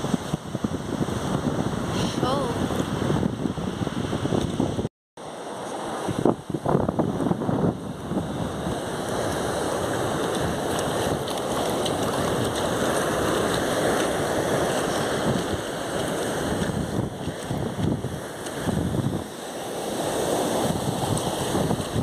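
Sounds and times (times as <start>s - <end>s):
wind buffeting microphone: 0.0s - 4.9s, 6.0s - 22.0s
surf washing onto beach: 0.0s - 22.0s.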